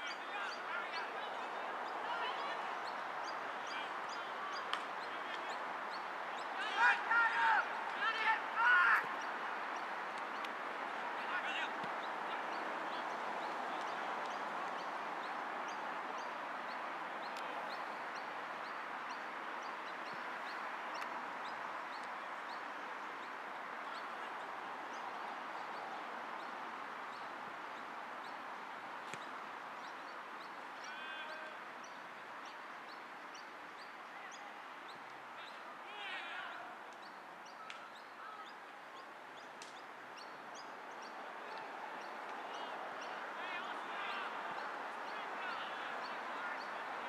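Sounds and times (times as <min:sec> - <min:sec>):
birds chirping: 0:00.0 - 0:47.0
steady background noise: 0:00.0 - 0:47.0.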